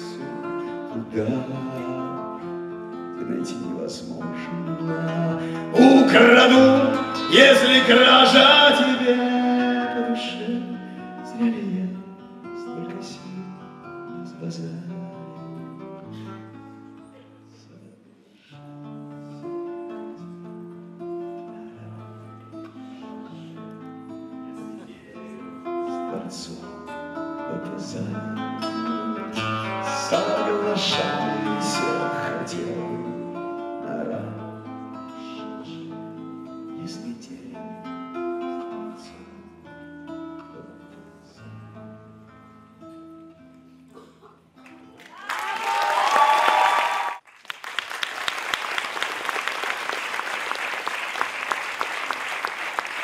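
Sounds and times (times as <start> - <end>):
acoustic guitar picked chords: 0.0 - 45.0.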